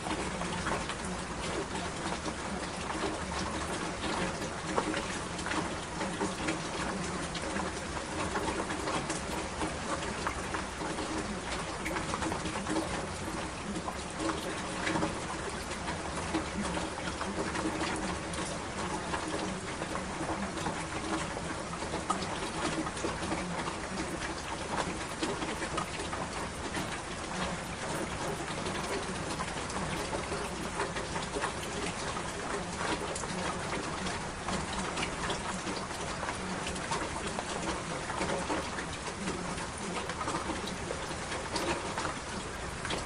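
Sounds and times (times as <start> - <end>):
raindrops striking a surface: 0.0 - 43.0
steady rain hiss: 0.0 - 43.0.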